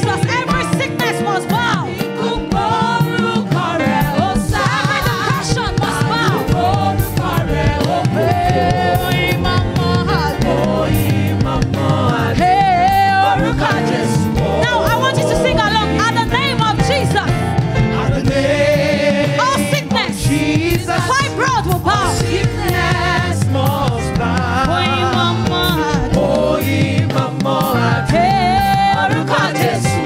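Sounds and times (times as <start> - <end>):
choir singing: 0.0 - 30.0
instrumental accompaniment: 0.0 - 30.0
woman singing gospel: 0.0 - 30.0.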